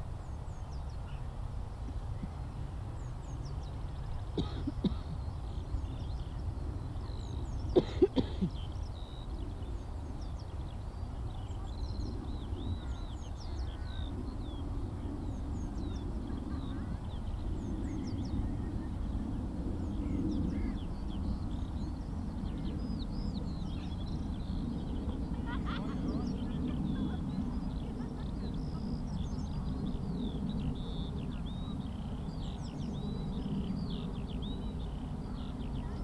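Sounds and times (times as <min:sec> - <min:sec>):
skylark song: 0:00.0 - 0:36.0.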